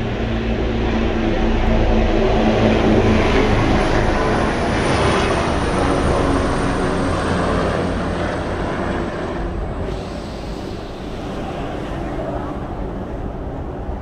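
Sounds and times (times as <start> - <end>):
low droning hum: 0.0 - 14.0
rush of wind and water: 0.0 - 14.0.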